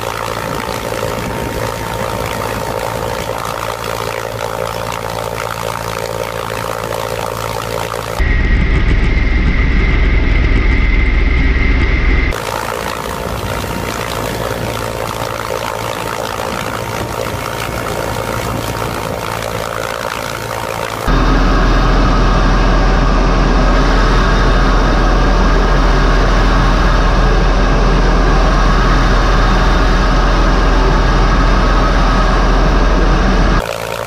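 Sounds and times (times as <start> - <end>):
distant helicopters rushing: 0.0 - 34.0
helicopter engine whine: 0.0 - 34.0
helicopter rotor and engine rumble: 0.0 - 34.0.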